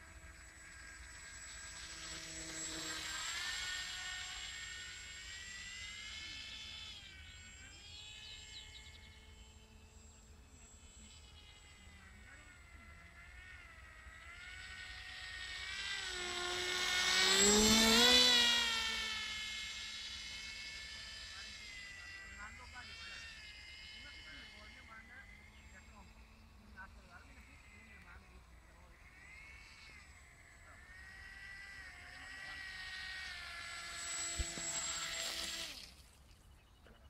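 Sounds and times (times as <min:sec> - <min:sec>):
model aircraft motor buzzing: 0:00.0 - 0:37.0.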